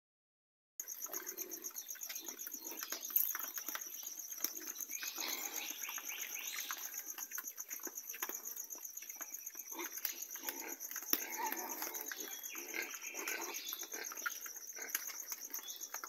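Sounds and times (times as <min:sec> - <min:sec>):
piglets chewing and crunching: 0:00.8 - 0:16.0
pulsing insect trill: 0:00.8 - 0:16.0.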